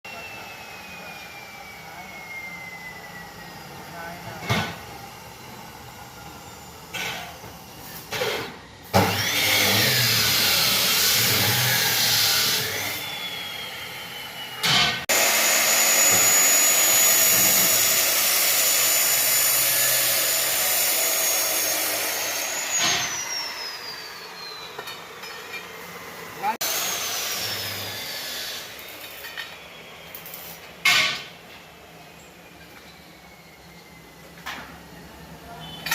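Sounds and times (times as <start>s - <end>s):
power tool whining: 0.1s - 31.2s.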